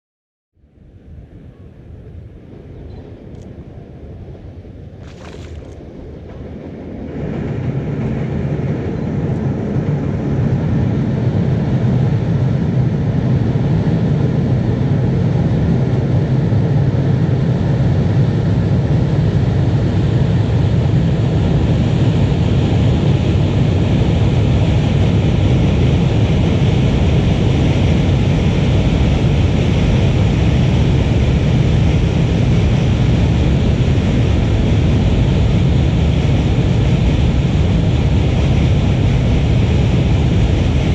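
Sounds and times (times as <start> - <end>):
train rumbling: 1.0 - 40.9.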